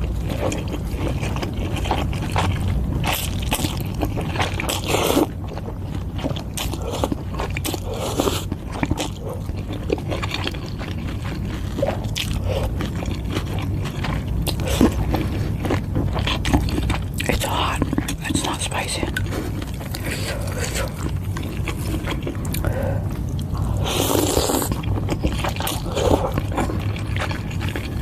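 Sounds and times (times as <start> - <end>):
person chewing noodle soup: 0.0 - 28.0
steady low hum: 0.0 - 28.0.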